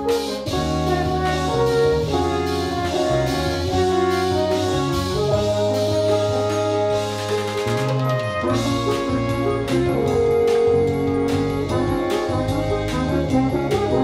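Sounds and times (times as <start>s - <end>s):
drum kit: 0.0s - 14.0s
electric bass: 0.0s - 14.0s
french horns playing chords: 0.0s - 14.0s.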